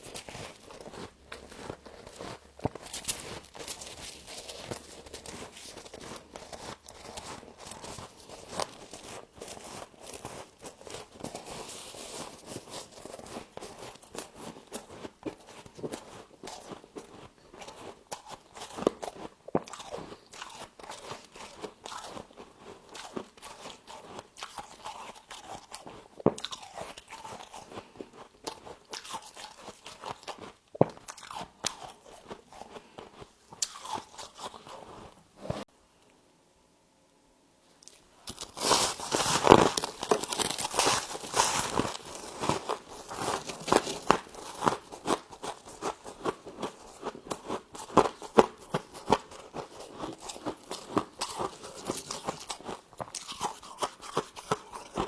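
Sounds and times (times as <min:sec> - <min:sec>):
chewing crunchy frost: 0:00.0 - 0:35.7, 0:37.8 - 0:55.0.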